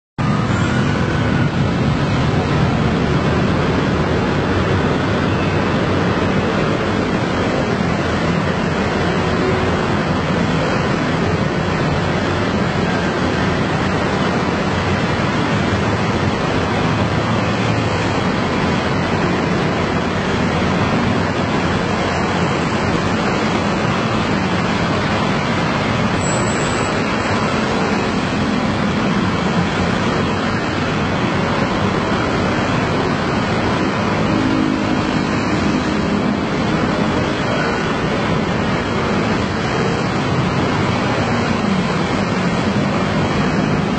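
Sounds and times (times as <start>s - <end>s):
scooter traffic noise: 0.2s - 43.9s.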